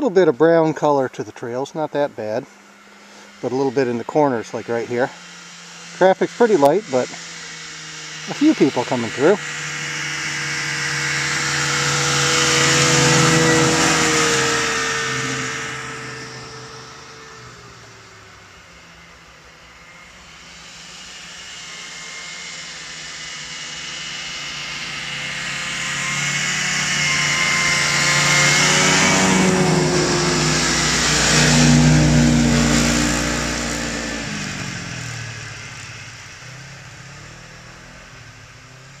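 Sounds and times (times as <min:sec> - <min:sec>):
snowmobiles passing by: 0:00.0 - 0:39.0.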